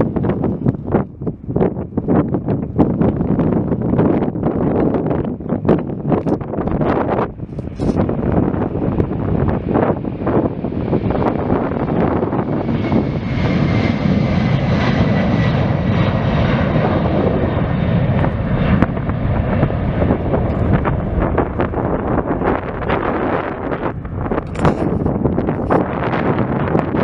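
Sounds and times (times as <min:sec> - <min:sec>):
airplane engines running: 0:00.0 - 0:27.0
wind buffeting microphone: 0:00.0 - 0:27.0.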